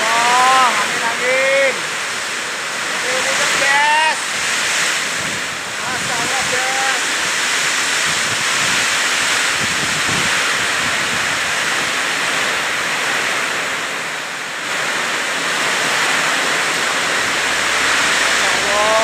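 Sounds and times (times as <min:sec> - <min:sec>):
heavy rain in strong wind: 0:00.0 - 0:19.0.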